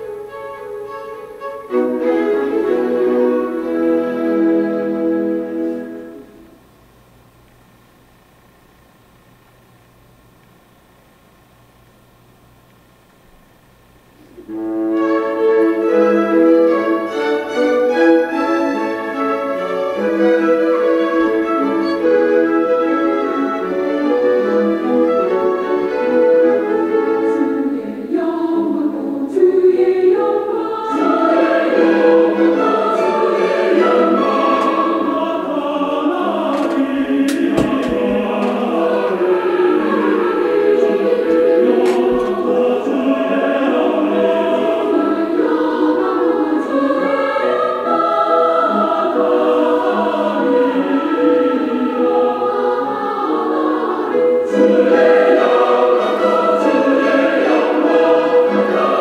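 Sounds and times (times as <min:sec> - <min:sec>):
choir singing: 0:00.0 - 0:06.5, 0:14.4 - 0:59.0.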